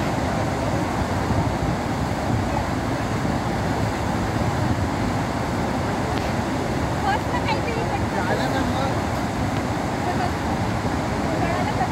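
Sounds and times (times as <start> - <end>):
waterfall roaring: 0.0 - 11.9.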